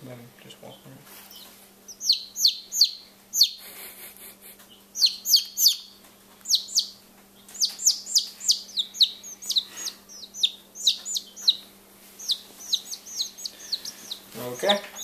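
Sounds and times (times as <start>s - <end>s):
chicks peeping: 0.5s - 15.0s.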